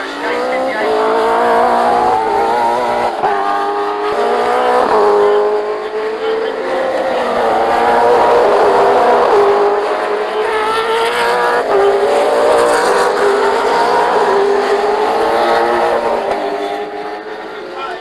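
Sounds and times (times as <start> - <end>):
racing engines at high revs: 0.0 - 18.0.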